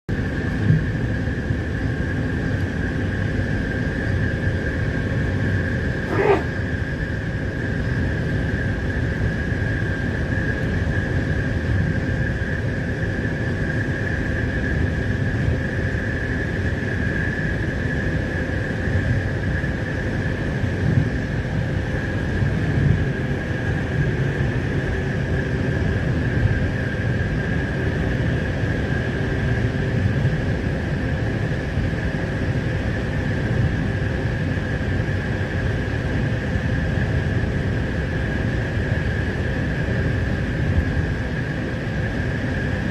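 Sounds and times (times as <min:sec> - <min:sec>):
train high whine: 0:00.1 - 0:42.9
train low rumble: 0:00.1 - 0:42.9.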